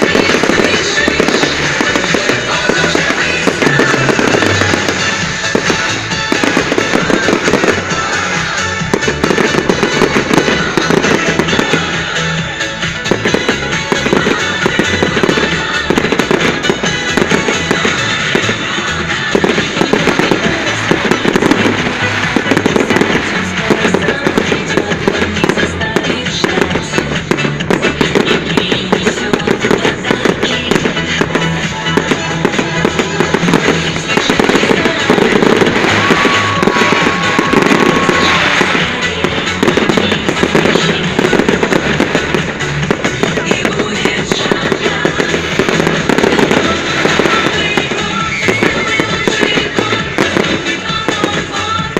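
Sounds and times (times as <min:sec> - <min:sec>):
fireworks bangs and crackles: 0:00.0 - 0:51.9
music playing: 0:00.0 - 0:51.9.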